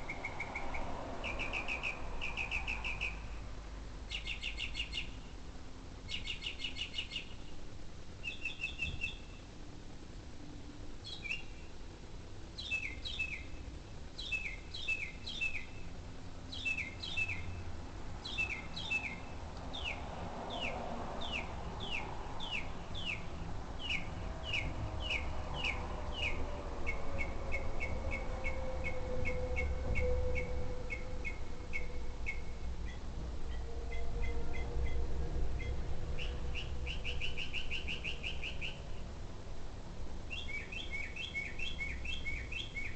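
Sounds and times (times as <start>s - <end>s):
bird singing: 0.0s - 3.4s, 4.1s - 5.3s, 6.1s - 7.6s, 8.2s - 9.5s, 11.0s - 11.8s, 12.5s - 15.9s, 16.5s - 39.1s, 40.3s - 42.9s
faint steady drone: 0.0s - 42.9s.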